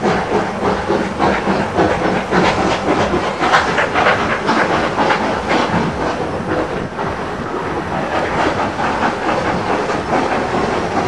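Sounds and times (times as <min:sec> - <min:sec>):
train rumbling and rattling: 0:00.0 - 0:11.0.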